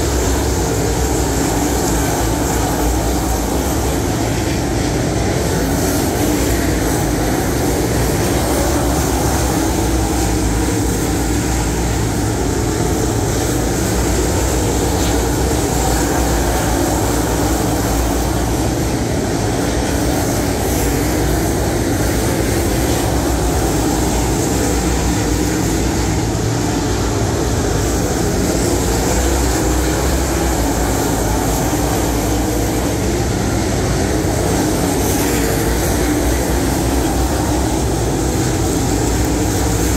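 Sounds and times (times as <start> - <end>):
race car engines running hard: 0.0 - 39.9.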